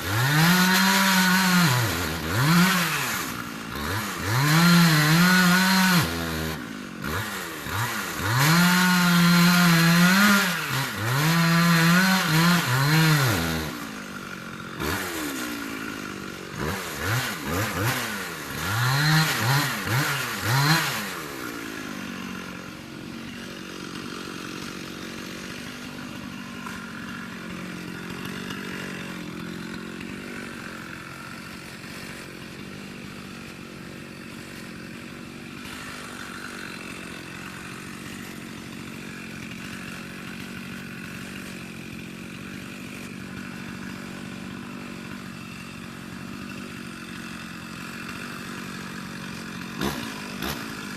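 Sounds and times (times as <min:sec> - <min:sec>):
chainsaw engine revving and idling: 0:00.0 - 0:50.9.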